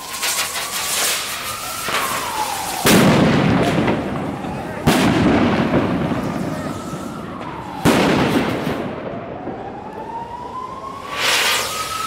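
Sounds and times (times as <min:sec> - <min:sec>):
firework bang: 0:00.0 - 0:09.6, 0:11.0 - 0:12.0.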